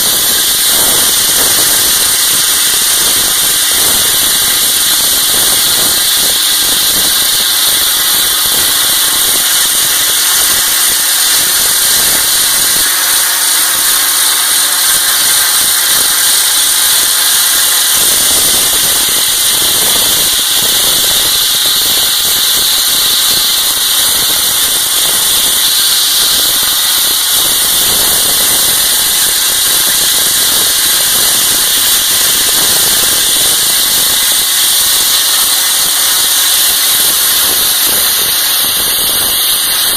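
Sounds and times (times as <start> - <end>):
blasting nozzle hissing: 0.0 - 39.9.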